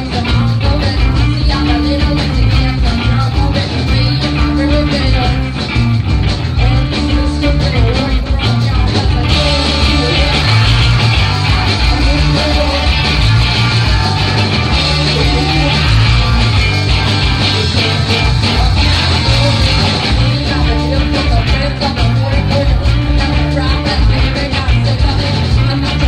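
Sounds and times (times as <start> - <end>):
drum kit beat: 0.0 - 26.0
electric bass: 0.0 - 26.0
electric guitar: 0.0 - 26.0.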